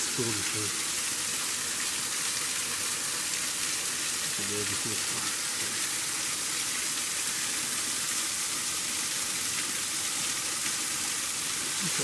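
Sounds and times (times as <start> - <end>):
small waterfall splashing on rocks: 0.0 - 12.0.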